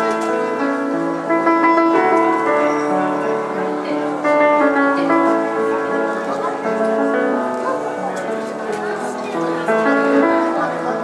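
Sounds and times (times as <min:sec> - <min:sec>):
piano melody over chords: 0:00.0 - 0:11.0.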